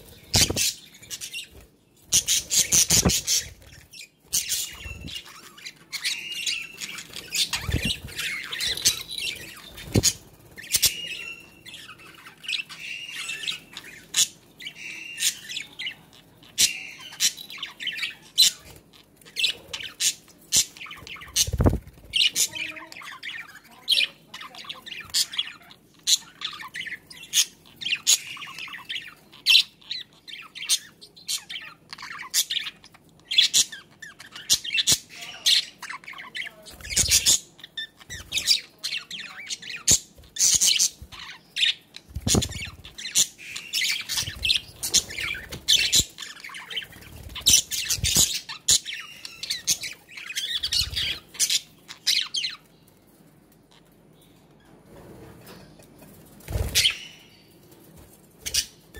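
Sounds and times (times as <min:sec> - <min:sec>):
budgerigars squawking and chirping: 0:00.0 - 0:52.8, 0:56.5 - 0:57.6, 0:58.3 - 0:58.9.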